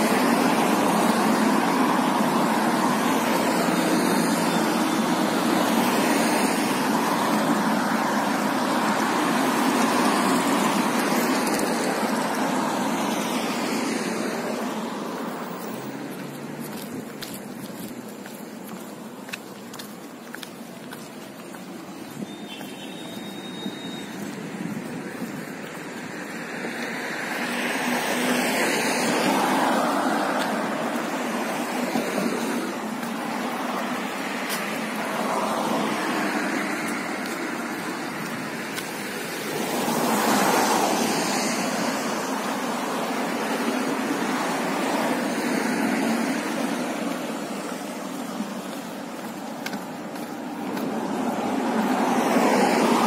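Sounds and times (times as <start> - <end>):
cars passing: 0.0 - 53.0.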